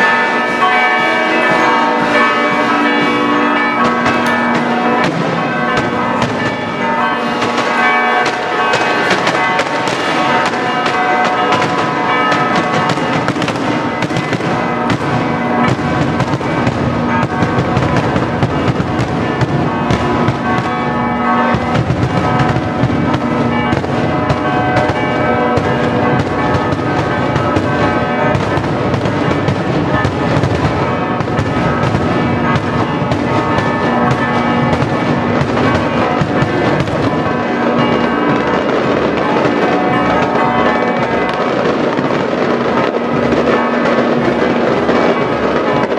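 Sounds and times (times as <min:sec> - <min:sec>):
church bells ringing: 0:00.0 - 0:45.9
fireworks bangs and crackles: 0:00.0 - 0:45.9.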